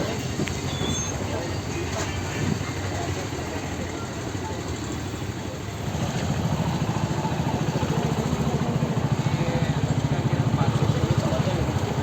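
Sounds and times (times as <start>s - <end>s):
street noise: 0.0s - 12.0s
vehicle engine idling: 0.0s - 12.0s.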